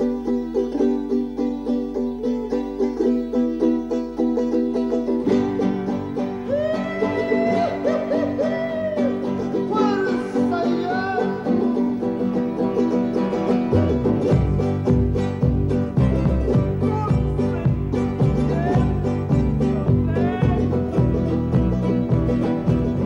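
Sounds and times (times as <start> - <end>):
plucked string folk music: 0.0 - 23.0.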